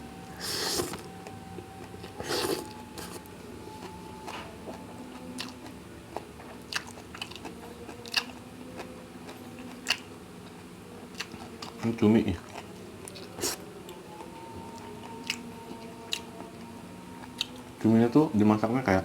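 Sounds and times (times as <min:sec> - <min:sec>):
person chewing food: 0:00.4 - 0:16.6, 0:17.2 - 0:17.7.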